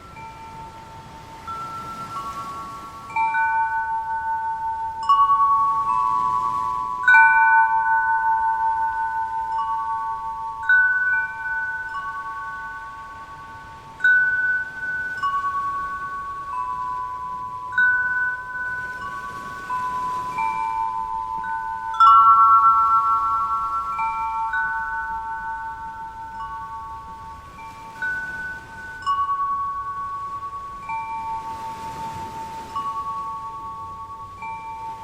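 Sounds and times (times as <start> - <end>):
wind chimes ringing: 0.0 - 35.0.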